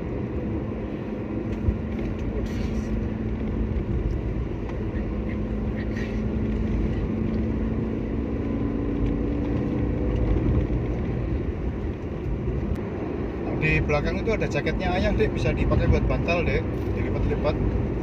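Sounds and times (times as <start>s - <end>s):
car engine drone: 0.0s - 18.0s
road noise: 0.0s - 18.0s.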